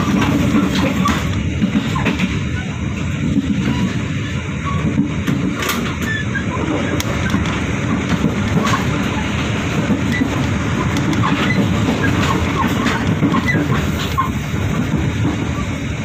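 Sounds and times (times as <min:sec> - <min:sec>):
wheels clicking over track: 0:00.0 - 0:15.7
train rumbling on rails: 0:00.0 - 0:16.0.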